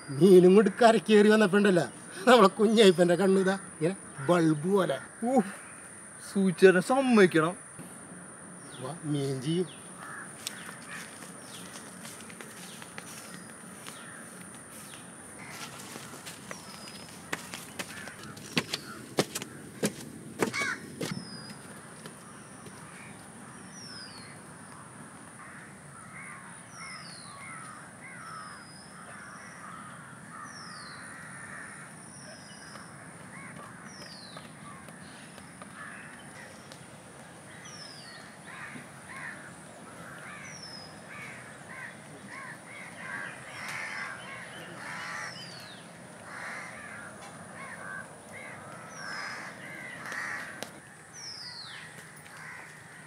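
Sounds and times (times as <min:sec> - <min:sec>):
crows cawing: 0:00.0 - 0:06.1, 0:08.2 - 0:53.0
high insect drone: 0:00.0 - 0:53.0.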